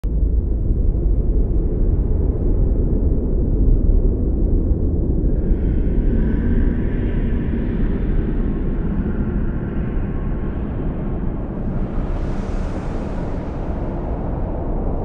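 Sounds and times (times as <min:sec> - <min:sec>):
wind blowing in deep rumble: 0:00.0 - 0:15.0.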